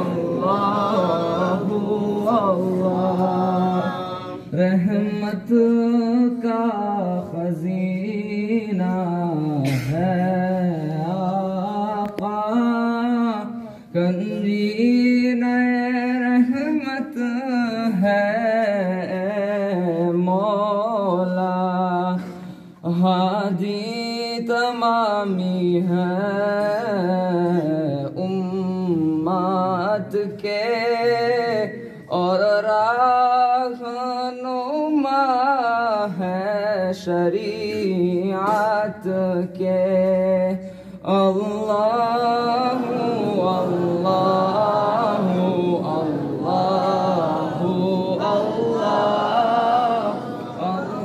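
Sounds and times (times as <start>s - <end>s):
young man singing unaccompanied: 0.0s - 51.0s.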